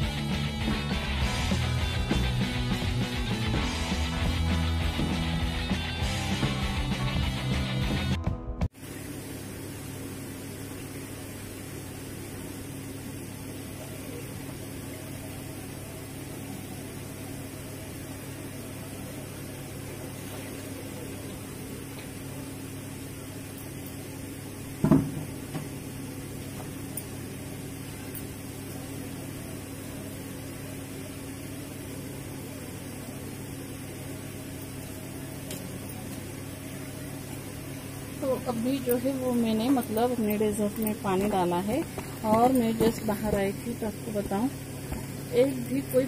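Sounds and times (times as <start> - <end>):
electric motor hum: 8.8 - 46.0.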